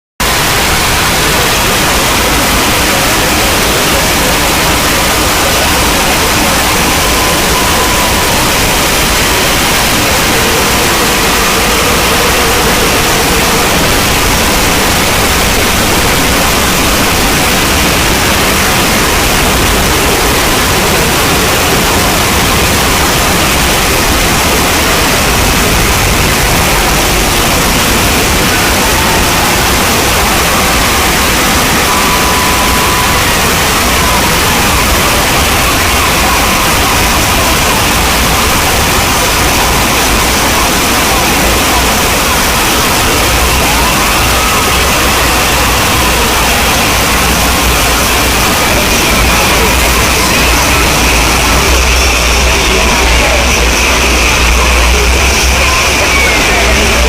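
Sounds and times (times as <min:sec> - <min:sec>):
static hiss: 0:00.2 - 0:57.0.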